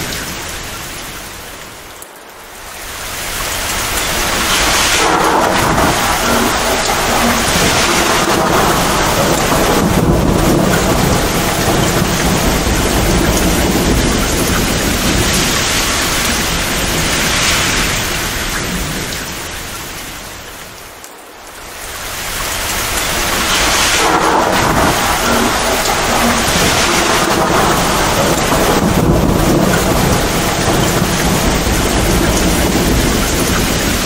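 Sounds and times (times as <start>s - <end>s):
torrential rain pouring: 0.0s - 34.0s
low thunder rumbling: 2.6s - 20.7s, 21.4s - 34.0s.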